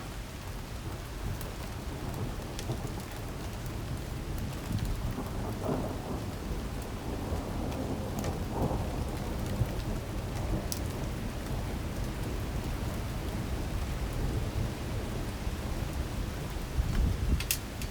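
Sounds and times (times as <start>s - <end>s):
heavy rain in wind: 0.0s - 17.9s.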